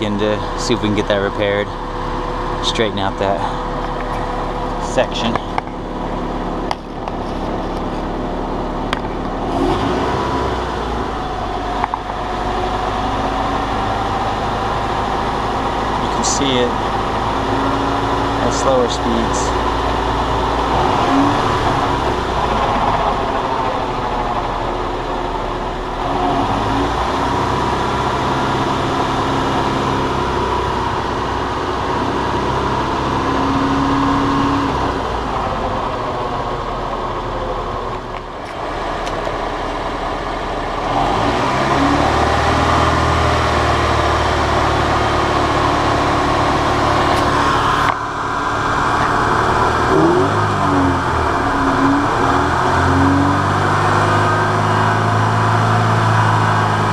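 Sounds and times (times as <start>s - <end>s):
car engine revving: 0.0s - 56.9s
road noise: 0.0s - 56.9s.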